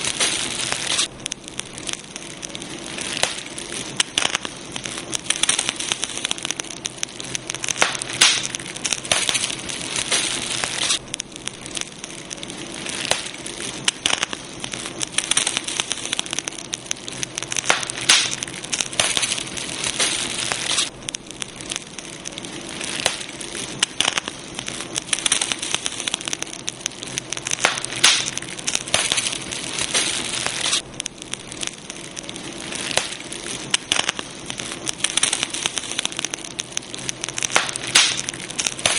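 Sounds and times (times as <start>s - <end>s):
campfire crackles and pops: 0.0s - 38.9s
steady fire hiss: 0.0s - 38.9s.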